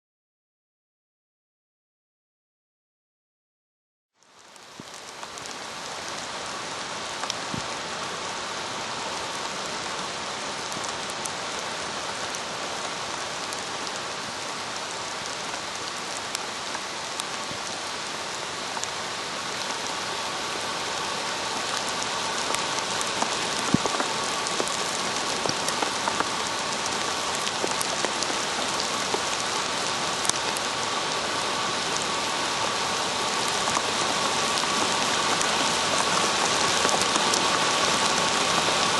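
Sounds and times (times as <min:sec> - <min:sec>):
steady rain falling: 0:04.2 - 0:38.9.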